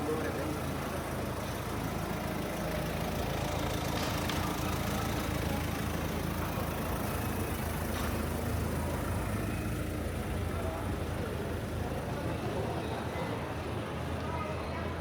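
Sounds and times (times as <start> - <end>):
engine idling: 0.0 - 13.1.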